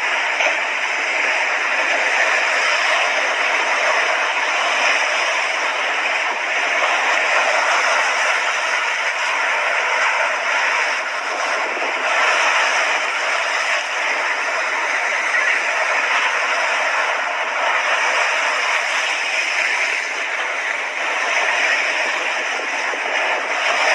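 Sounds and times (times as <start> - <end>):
sea waves washing on shore: 0.0 - 23.9.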